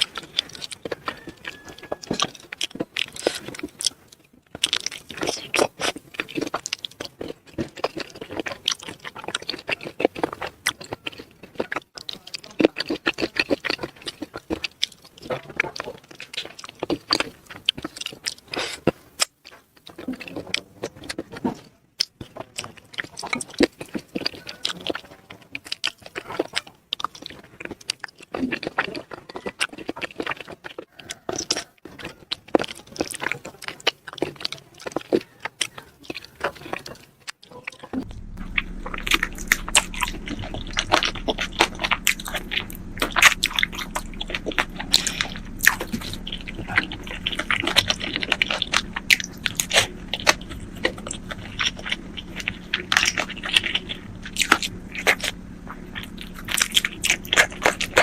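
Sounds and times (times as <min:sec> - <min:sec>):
person chewing with wet clicks: 0:00.0 - 0:58.0.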